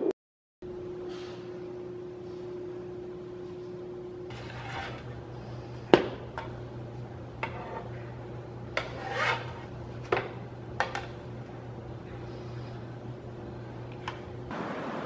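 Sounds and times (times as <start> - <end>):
steady low hum: 0.6 - 15.0.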